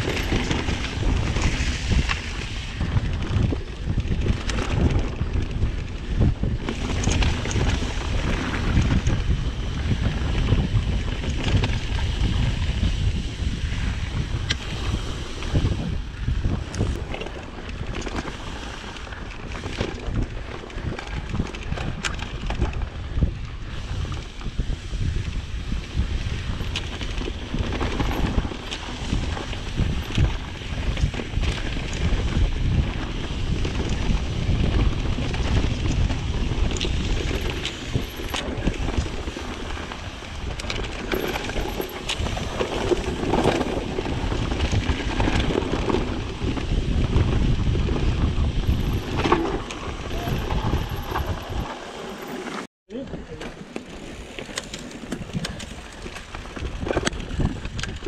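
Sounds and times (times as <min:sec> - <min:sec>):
bike clicks and knocks: 0:00.0 - 0:15.6, 0:16.4 - 0:23.3, 0:24.0 - 0:52.6, 0:53.3 - 0:58.0
bike rumbling on dirt trail: 0:00.0 - 0:58.0
wind buffeting microphone: 0:00.0 - 0:58.0.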